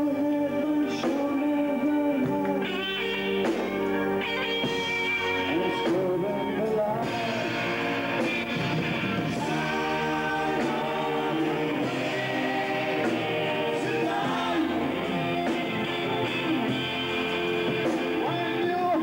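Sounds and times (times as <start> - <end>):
person singing: 0.0 - 3.3, 4.3 - 8.6, 9.3 - 19.0
drums: 0.0 - 19.0
electric guitar: 0.0 - 19.0
live band playing: 0.0 - 19.0.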